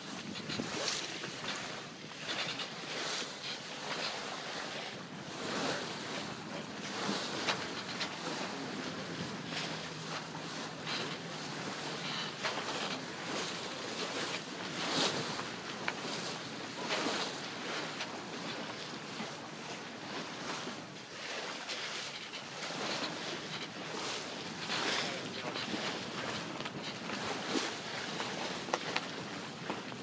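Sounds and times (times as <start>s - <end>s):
water rushing along a hull: 0.0s - 30.0s.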